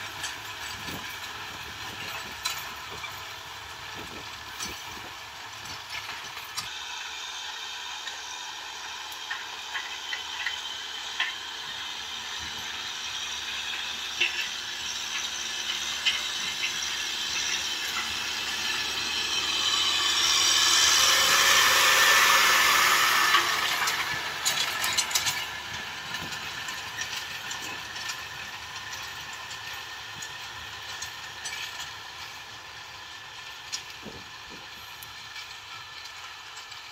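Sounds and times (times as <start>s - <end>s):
tractor tiller clattering: 0.0s - 36.9s.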